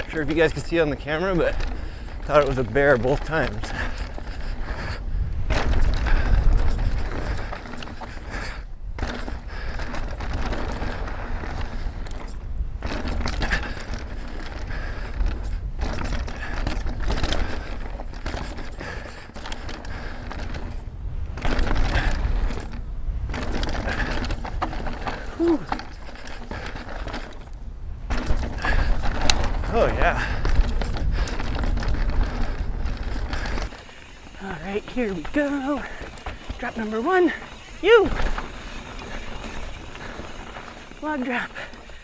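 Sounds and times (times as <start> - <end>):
bike rattling: 0.0 - 42.0
bike tyres crunching over dirt: 0.0 - 42.0.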